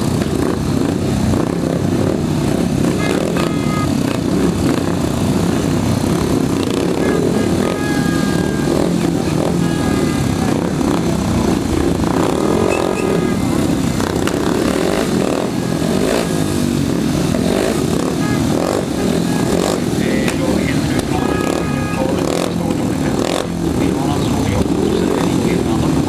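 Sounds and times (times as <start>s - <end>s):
motorcycle engines running: 0.0s - 26.0s.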